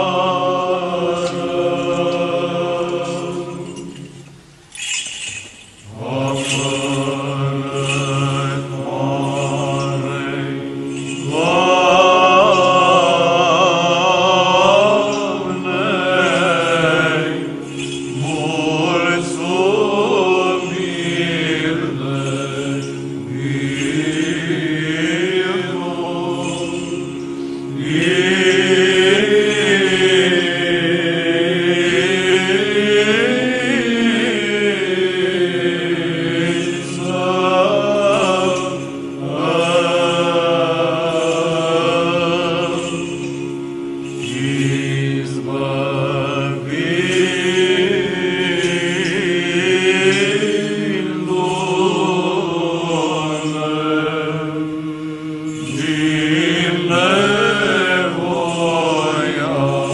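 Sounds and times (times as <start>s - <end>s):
voices chanting: 0.0s - 4.2s, 4.8s - 59.9s
held vocal drone: 0.0s - 59.9s.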